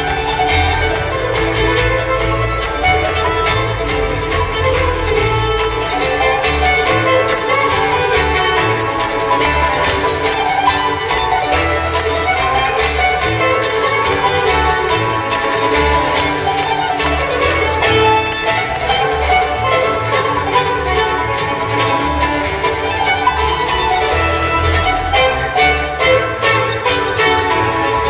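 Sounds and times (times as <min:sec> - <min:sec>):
acoustic string band playing: 0:00.0 - 0:28.0
fiddle: 0:00.0 - 0:28.0
pulsing bass notes: 0:00.0 - 0:28.0.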